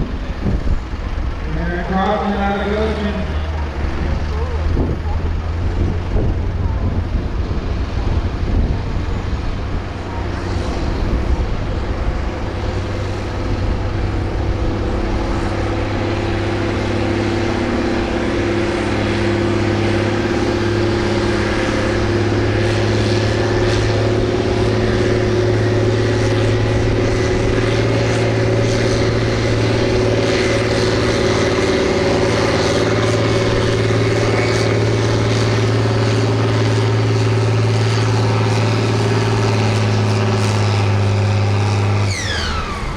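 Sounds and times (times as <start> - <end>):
tractor engine running hard: 0.0 - 42.9.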